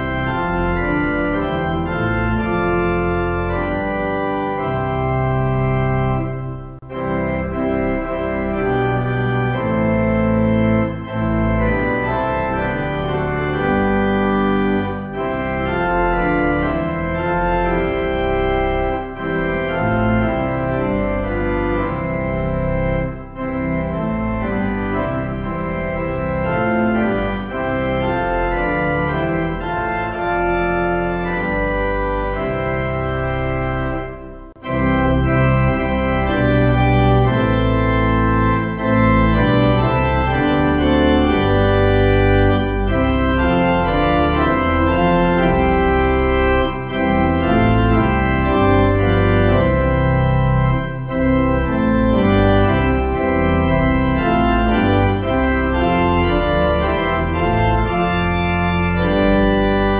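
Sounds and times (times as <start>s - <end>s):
organ playing hymn chords: 0.0s - 59.9s.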